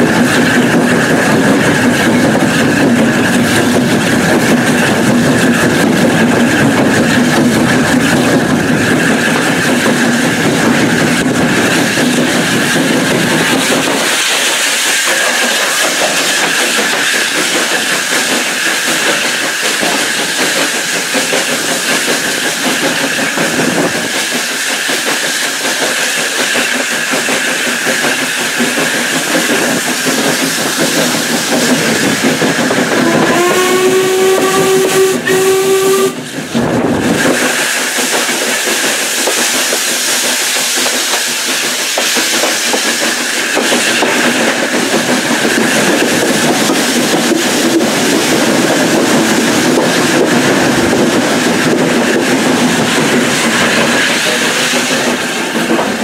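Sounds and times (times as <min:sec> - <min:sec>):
steam hiss: 0:00.0 - 0:56.0
wheel and rail noise: 0:00.0 - 0:56.0.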